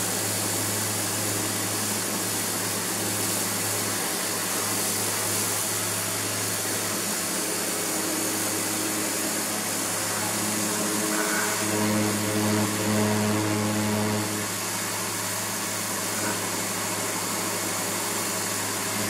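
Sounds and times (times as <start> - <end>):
pressure washer motor humming: 0.0 - 19.0
water jet spraying hiss: 0.0 - 19.0.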